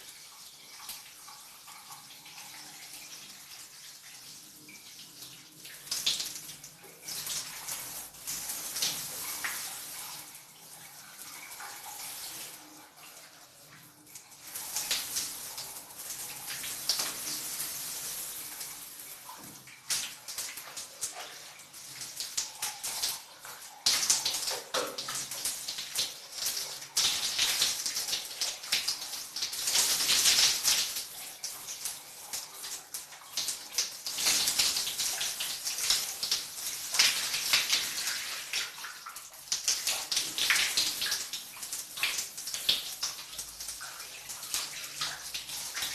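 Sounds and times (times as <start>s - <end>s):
shower water splashing: 0.0s - 45.9s.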